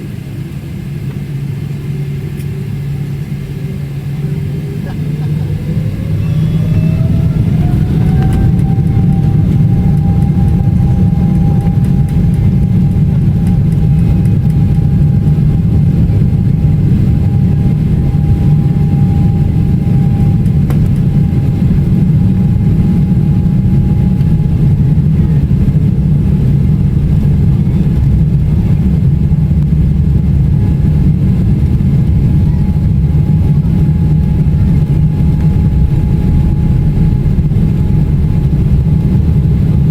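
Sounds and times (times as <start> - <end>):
jet engine whine rising: 0.0 - 39.9
loud steady engine rumble: 0.0 - 39.9.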